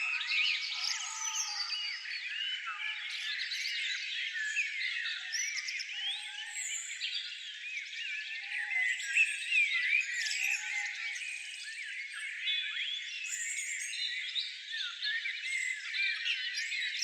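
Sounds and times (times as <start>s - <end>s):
songbirds chirping chorus: 0.0s - 17.0s.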